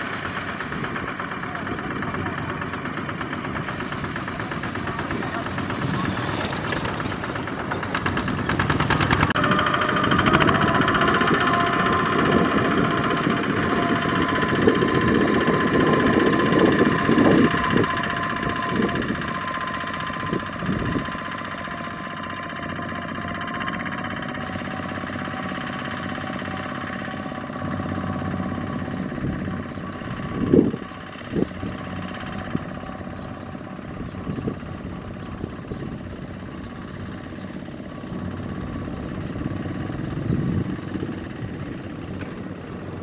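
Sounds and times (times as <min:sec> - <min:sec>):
diesel tractor engines running: 0:00.0 - 0:43.0.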